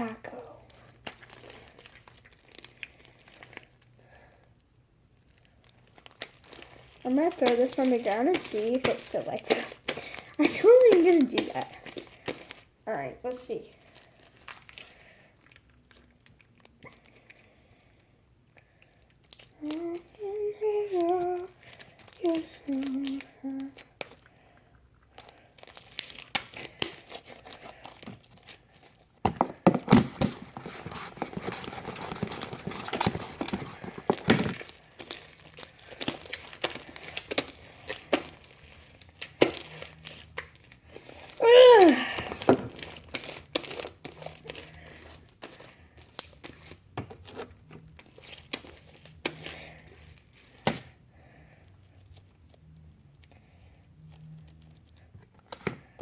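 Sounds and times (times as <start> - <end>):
hands squishing sticky slime: 0.0 - 17.8, 18.5 - 56.0.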